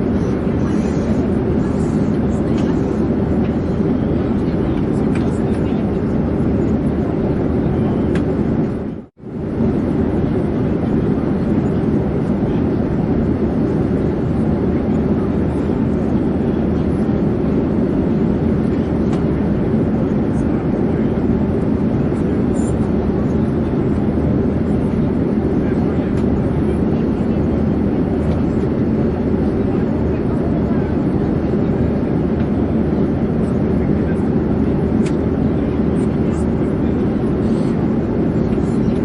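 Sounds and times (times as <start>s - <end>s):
airplane drone in flight: 0.0s - 39.0s.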